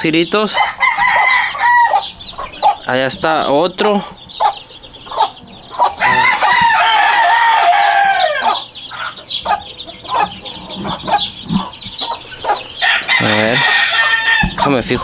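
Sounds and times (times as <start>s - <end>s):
chicks peeping: 0.0s - 15.0s
rooster crowing: 0.5s - 2.9s, 4.3s - 14.7s.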